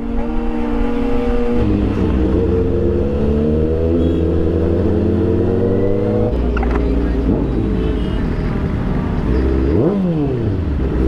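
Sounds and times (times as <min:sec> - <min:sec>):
motorcycle engine accelerating: 0:00.0 - 0:07.8, 0:09.0 - 0:11.0.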